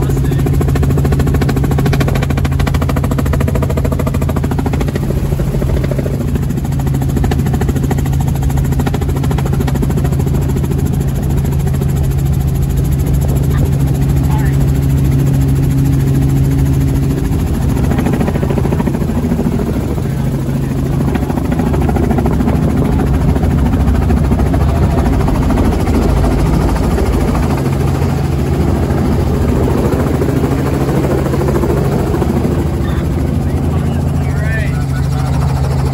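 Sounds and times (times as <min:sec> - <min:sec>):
helicopter engine and rotor: 0:00.0 - 0:35.9.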